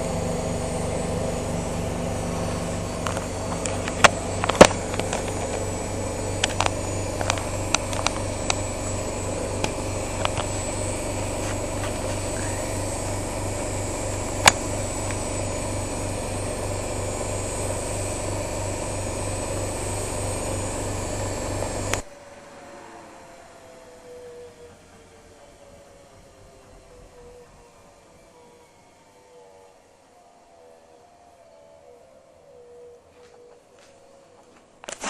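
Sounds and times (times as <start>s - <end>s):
washing machine running: 0.0s - 32.8s
faint hum: 0.0s - 35.0s.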